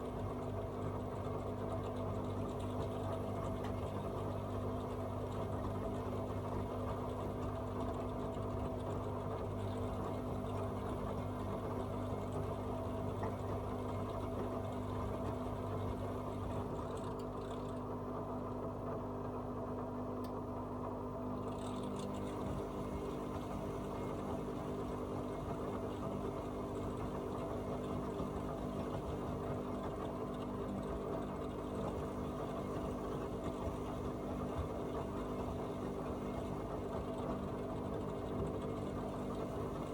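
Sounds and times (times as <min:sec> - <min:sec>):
washing machine motor humming: 0:00.0 - 0:39.9.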